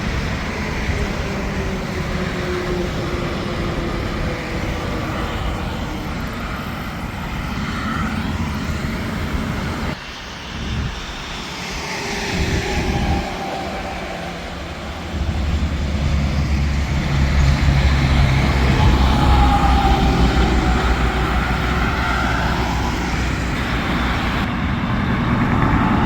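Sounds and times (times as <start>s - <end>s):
heavy highway traffic rushing: 0.0s - 26.0s
truck passing with falling whine: 0.0s - 26.0s.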